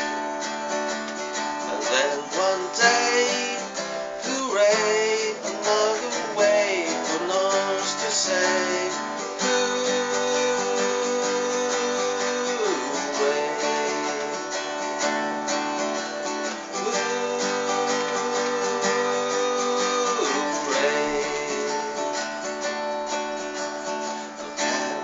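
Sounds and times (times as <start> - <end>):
acoustic guitar strumming: 0.0 - 25.0
held melody line: 0.0 - 25.0.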